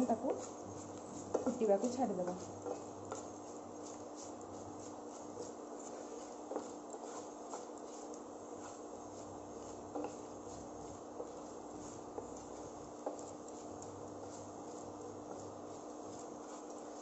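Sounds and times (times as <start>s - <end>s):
spatula scraping and knocking pan: 0.0s - 17.0s.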